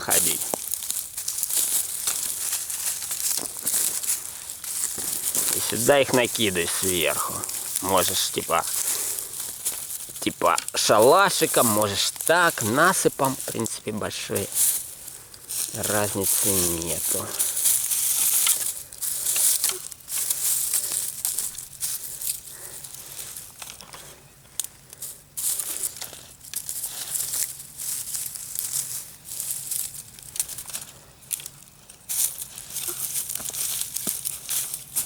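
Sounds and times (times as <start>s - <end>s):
rustling and crackling: 0.0s - 35.0s
twigs snapping: 0.0s - 35.0s.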